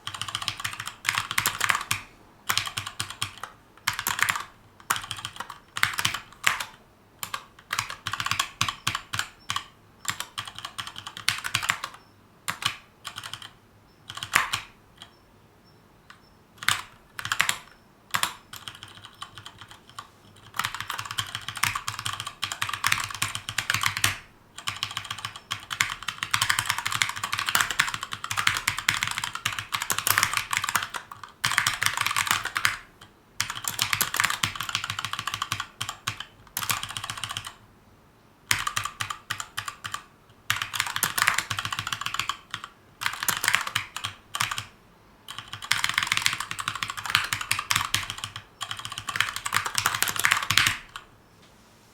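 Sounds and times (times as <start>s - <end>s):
mechanical keyboard typing: 0.0s - 15.2s, 16.1s - 37.6s, 38.5s - 51.1s.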